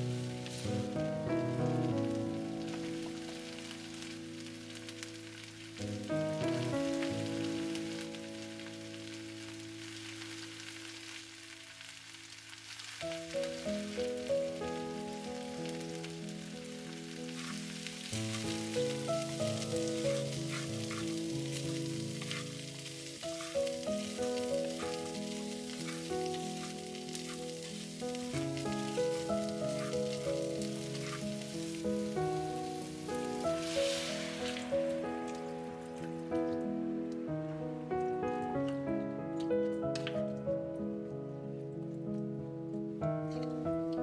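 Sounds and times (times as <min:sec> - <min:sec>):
soft instrumental music: 0:00.0 - 0:12.0, 0:13.0 - 0:44.0
vegetables sizzling in oil: 0:00.0 - 0:36.7.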